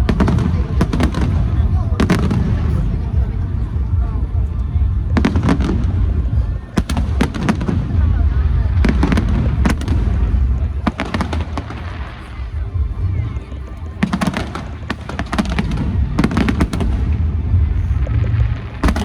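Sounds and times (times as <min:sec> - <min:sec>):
deep rumble of fireworks booms: 0:00.0 - 0:19.0
fireworks crackling: 0:00.0 - 0:19.0.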